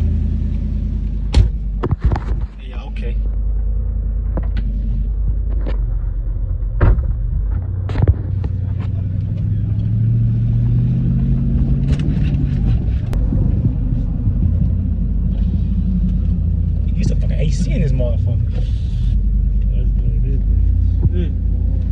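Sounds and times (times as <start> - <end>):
vehicle engine rumble: 0.0 - 21.9.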